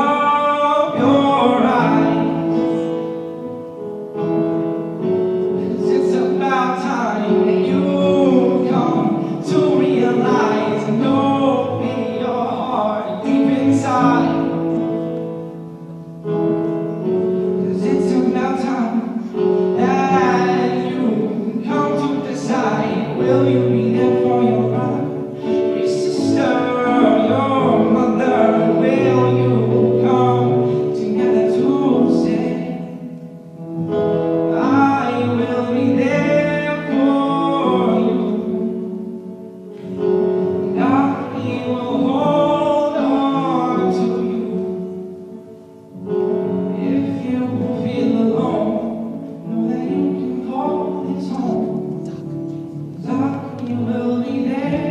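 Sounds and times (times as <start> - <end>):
person singing: 0.0 - 15.5, 16.3 - 54.9.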